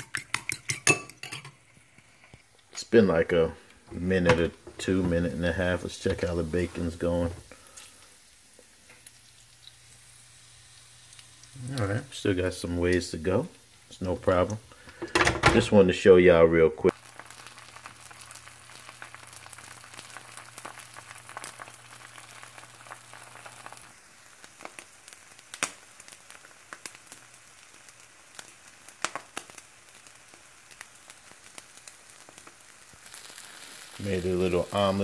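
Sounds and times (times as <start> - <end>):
egg sizzling in a pan: 0.0 - 2.7, 4.5 - 15.2, 16.9 - 35.0.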